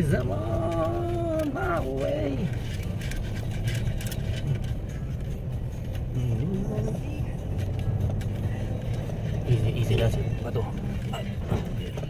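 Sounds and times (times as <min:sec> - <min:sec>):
road noise: 0:00.0 - 0:12.0
vehicle engine under load: 0:00.0 - 0:12.0.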